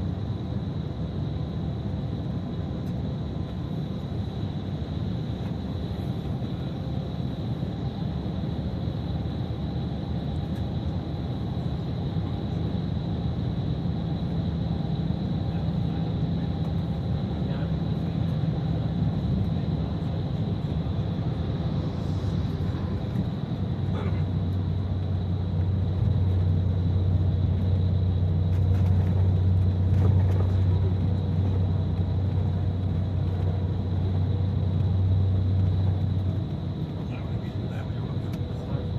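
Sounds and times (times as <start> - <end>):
bus engine and road rumble: 0.0 - 38.9
faint high whine: 0.0 - 38.9.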